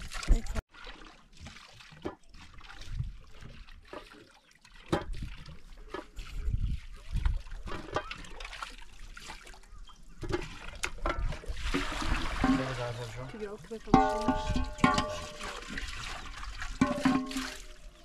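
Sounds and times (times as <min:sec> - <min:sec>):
water trickling into metal pot: 0:00.0 - 0:18.0.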